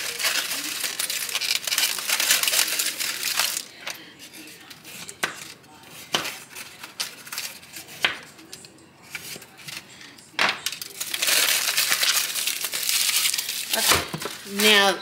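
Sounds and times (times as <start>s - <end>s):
foil crinkling: 0.0s - 14.9s
foil crackling: 0.0s - 15.0s.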